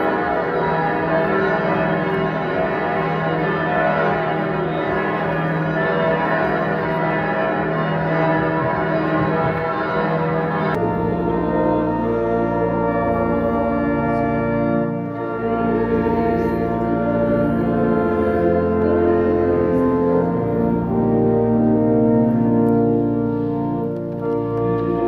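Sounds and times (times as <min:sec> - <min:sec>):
church bells pealing: 0:00.0 - 0:25.0
organ playing held chords: 0:00.0 - 0:25.0.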